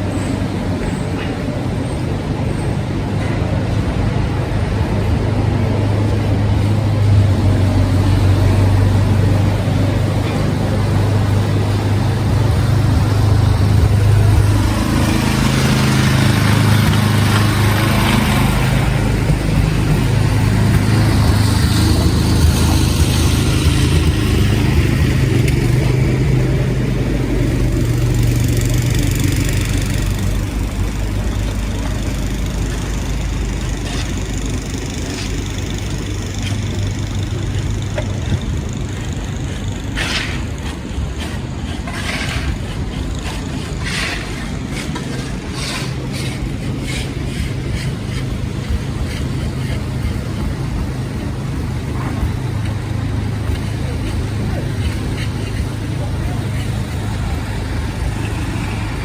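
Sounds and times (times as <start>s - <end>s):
heavy vehicle engine humming: 0.0s - 59.0s.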